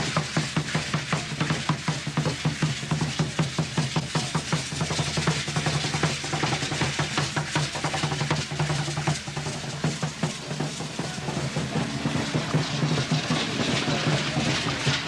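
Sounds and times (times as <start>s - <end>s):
fast steady drum beat: 0.0s - 15.0s.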